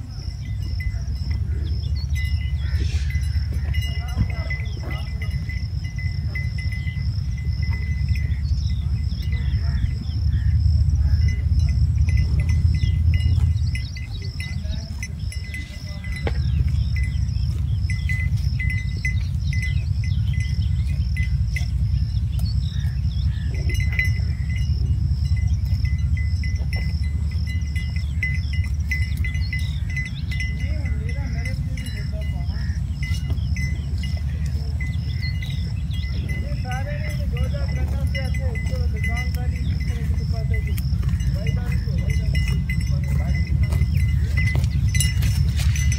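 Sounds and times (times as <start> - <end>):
bird chirps: 0.0 - 45.9
distant diesel locomotive rumble: 0.0 - 45.9.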